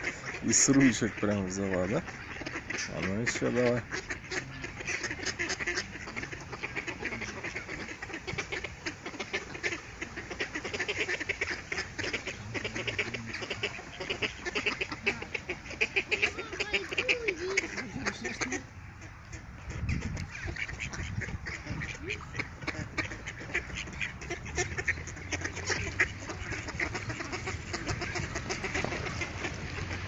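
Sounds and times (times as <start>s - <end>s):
ducks quacking: 0.0s - 30.0s.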